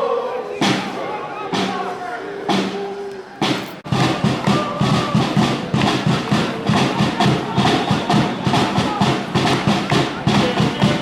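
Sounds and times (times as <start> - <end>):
voices: 0.0 - 11.0
drum beaten in fast rhythm: 0.6 - 11.0.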